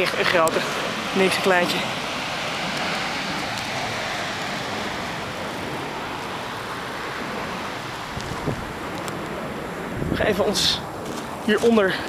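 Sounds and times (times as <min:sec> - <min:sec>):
volcanic eruption rushing roar: 0:00.0 - 0:11.5.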